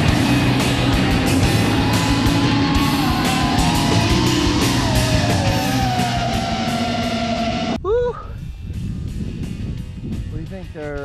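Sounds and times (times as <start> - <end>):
rock music with drums and guitar: 0.0 - 7.8, 8.6 - 11.0.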